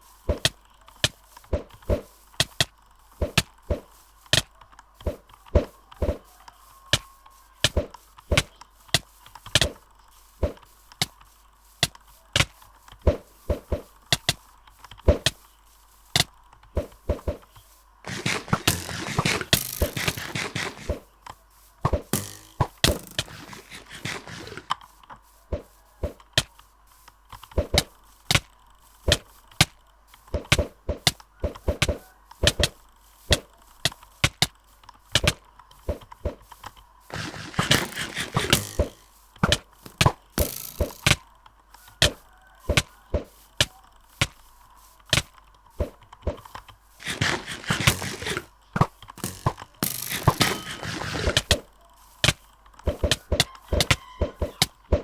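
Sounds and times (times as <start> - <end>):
noisy rustle: 0.0 - 55.0.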